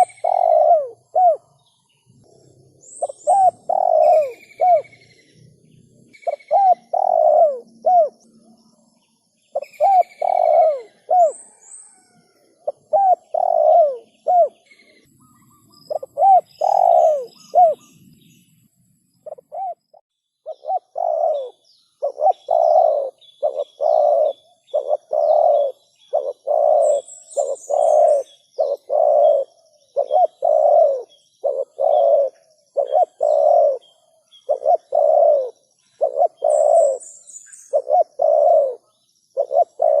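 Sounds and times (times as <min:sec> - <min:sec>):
dove cooing: 0:00.0 - 0:08.5, 0:09.5 - 0:15.0, 0:15.9 - 0:17.9, 0:19.2 - 0:40.0
small birds chirping: 0:00.0 - 0:40.0.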